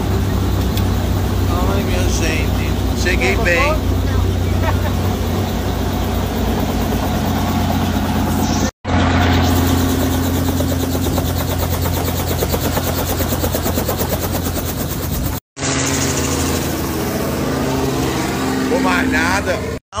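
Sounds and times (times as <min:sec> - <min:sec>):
helicopter engine and rotor: 0:00.0 - 0:19.8.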